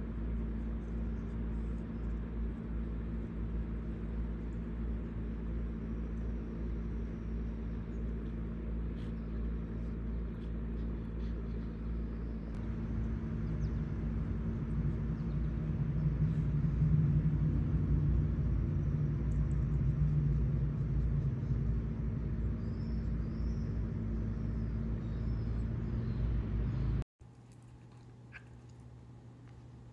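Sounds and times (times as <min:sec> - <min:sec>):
constant hum: 0:00.0 - 0:29.9
low mechanical rumble: 0:00.0 - 0:29.9.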